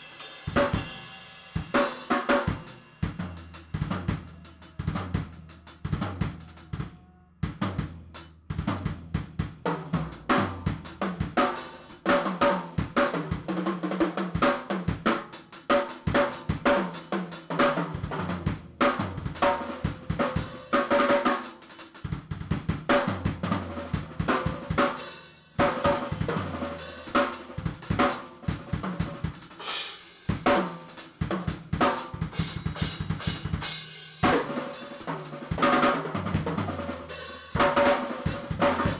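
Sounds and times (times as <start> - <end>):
drum kit played fast: 0.0 - 38.9.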